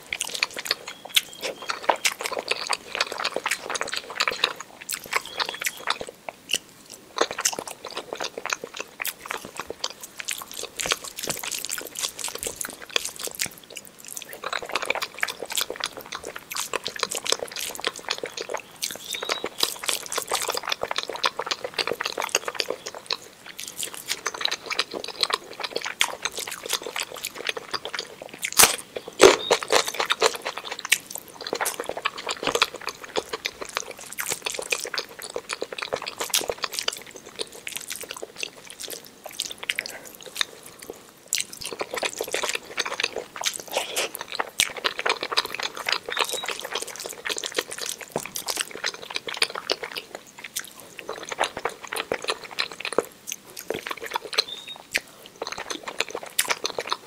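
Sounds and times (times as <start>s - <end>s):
wet chewing and smacking: 0.0s - 57.0s.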